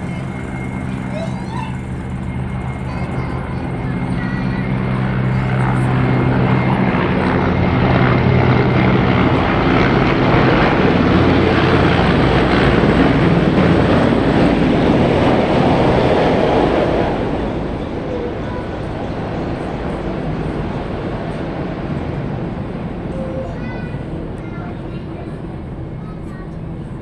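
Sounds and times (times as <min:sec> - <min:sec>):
helicopter rotor beat: 0:00.0 - 0:27.0
turbine noise: 0:00.0 - 0:27.0.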